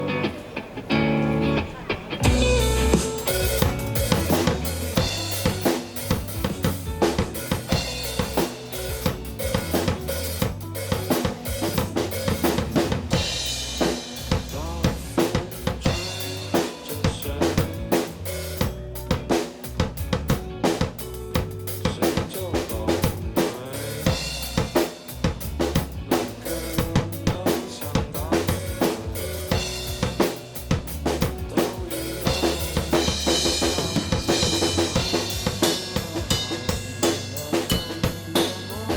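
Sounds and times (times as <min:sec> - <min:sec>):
rock band instrumental: 0:00.0 - 0:38.9
drum kit: 0:02.2 - 0:38.9.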